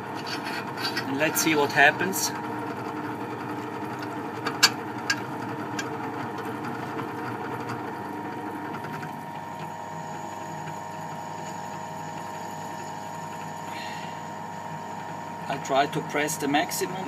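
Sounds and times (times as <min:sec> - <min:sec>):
drill press running: 0:00.0 - 0:17.0.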